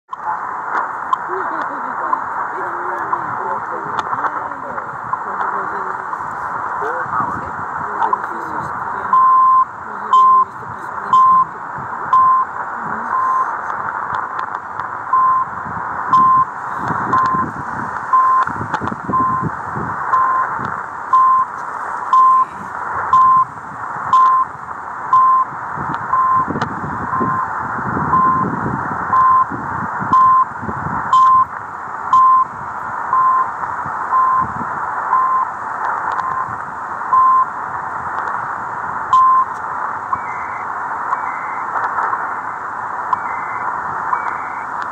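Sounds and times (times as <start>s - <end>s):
shortwave radio hiss: 0.1s - 44.9s.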